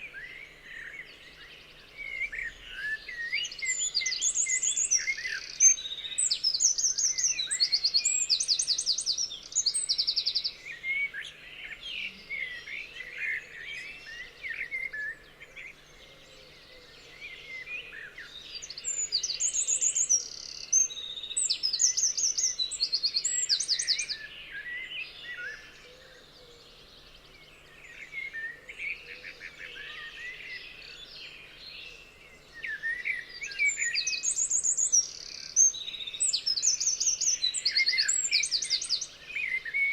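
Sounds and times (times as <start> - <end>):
birds chirping and whistling: 1.6 - 12.5, 17.0 - 26.3, 27.0 - 39.9.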